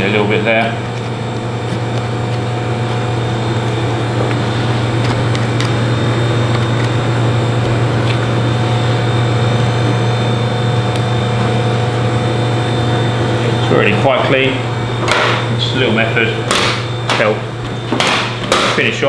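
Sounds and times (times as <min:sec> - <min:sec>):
mechanical hum with low drone: 0:00.0 - 0:19.0.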